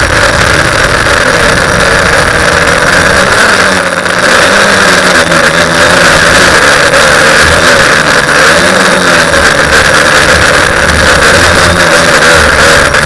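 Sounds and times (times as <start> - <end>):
quadcopter motors and propellers: 0.0 - 13.0.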